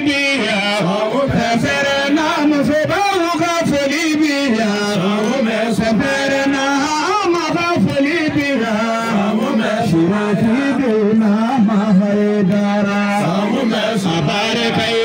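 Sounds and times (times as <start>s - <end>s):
man singing through loudspeakers: 0.0s - 15.0s.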